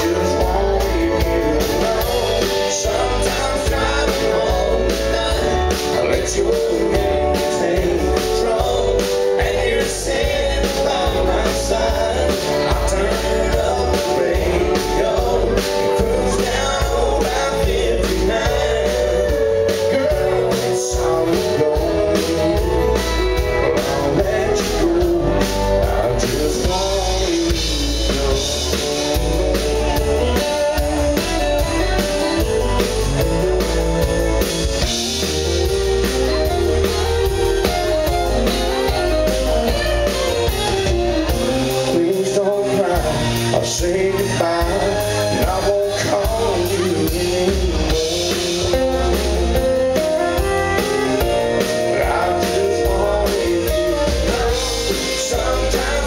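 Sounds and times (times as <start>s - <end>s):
acoustic guitar: 0.0s - 56.0s
drums: 0.0s - 56.0s
electric guitar: 0.0s - 56.0s
man singing: 0.0s - 56.0s.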